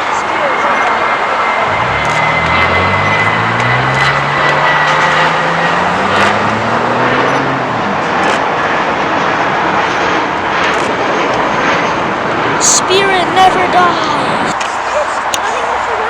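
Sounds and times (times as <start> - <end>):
jet engines roaring: 0.0 - 16.0
low drone rising in pitch: 0.9 - 14.6.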